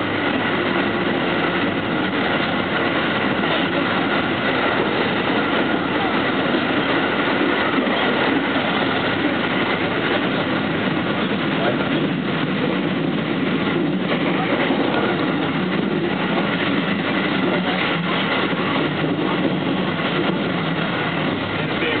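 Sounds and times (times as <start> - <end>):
electric train running at speed: 0.0 - 22.0.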